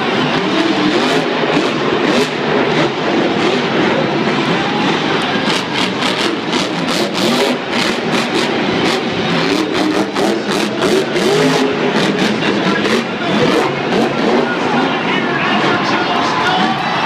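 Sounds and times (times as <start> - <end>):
arena noise: 0.0 - 17.0
monster truck engines revving: 0.0 - 17.0.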